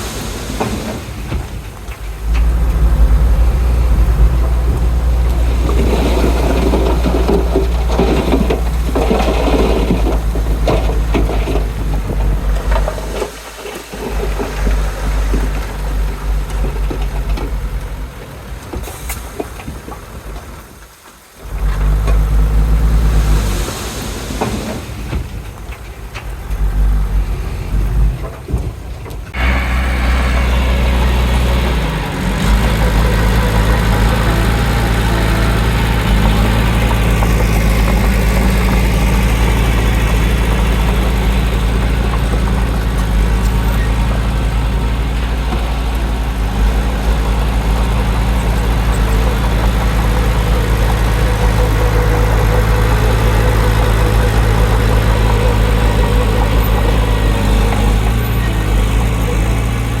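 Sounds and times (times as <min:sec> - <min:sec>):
heavy diesel engine rumbling: 0:00.0 - 0:20.6, 0:21.2 - 1:00.0.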